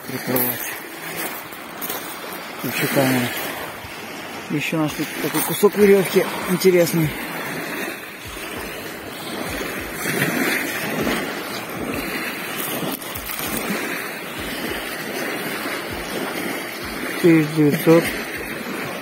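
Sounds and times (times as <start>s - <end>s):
small waves washing on pebbles: 0.0s - 19.0s.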